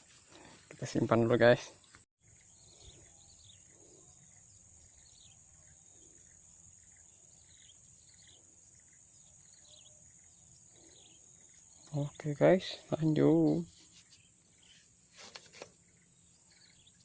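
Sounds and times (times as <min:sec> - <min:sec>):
faint chirps: 0:00.2 - 0:17.0.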